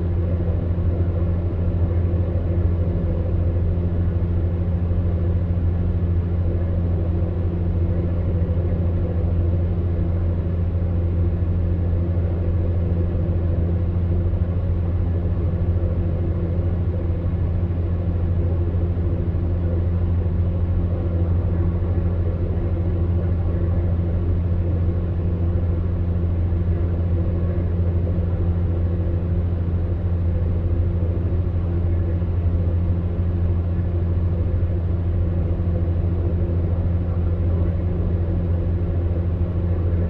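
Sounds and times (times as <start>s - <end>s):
fan heater humming: 0.0s - 40.0s.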